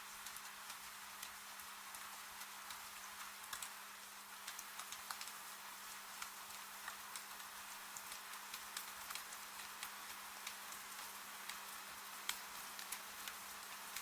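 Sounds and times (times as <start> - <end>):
steady rain hiss: 0.0 - 14.0
raindrop ticks and taps: 0.2 - 3.8, 4.4 - 14.0.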